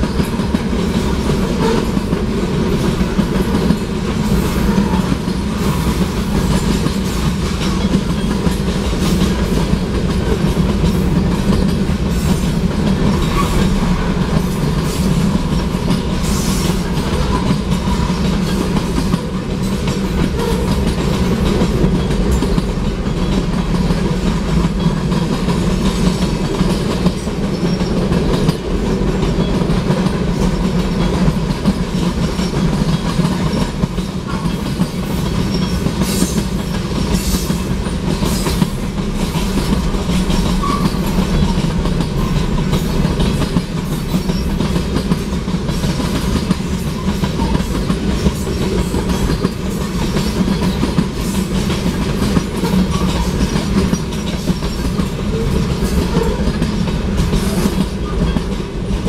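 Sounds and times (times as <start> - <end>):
steel train wheels rumbling: 0.0 - 59.0.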